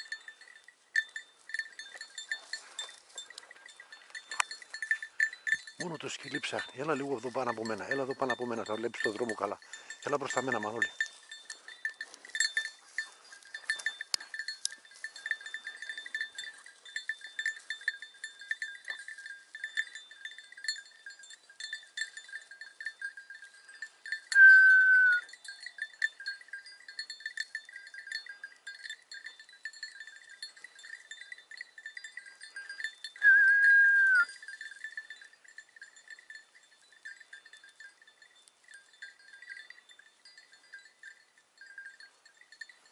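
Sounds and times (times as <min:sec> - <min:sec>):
dog collar bell jingling: 0:00.0 - 0:42.9.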